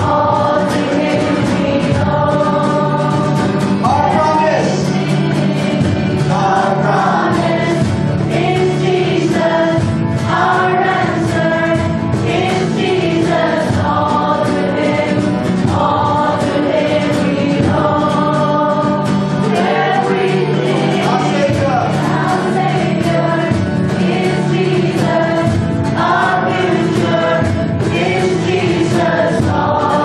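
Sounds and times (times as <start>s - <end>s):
choir singing gospel: 0.0s - 30.0s
sustained instrumental accompaniment: 0.0s - 30.0s.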